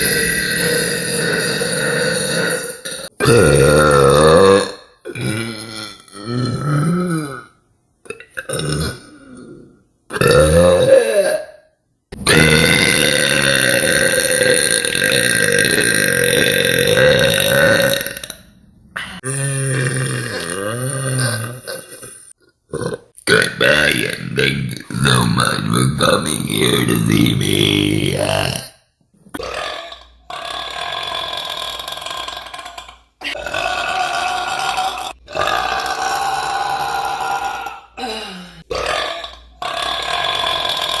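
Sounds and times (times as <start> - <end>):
woman burping loudly: 0.0 - 23.2, 29.4 - 41.0.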